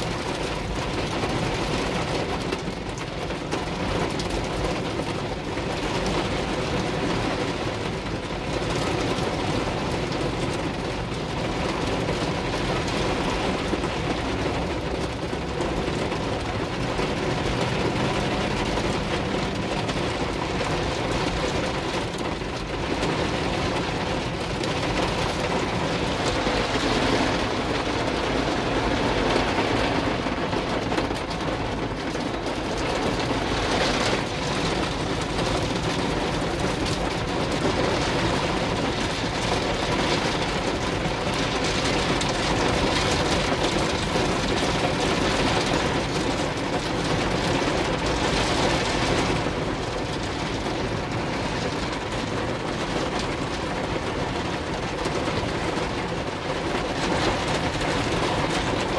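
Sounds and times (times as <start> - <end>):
heavy rain: 0.0 - 58.9
vehicle rumble and wet-road hiss: 0.0 - 58.9.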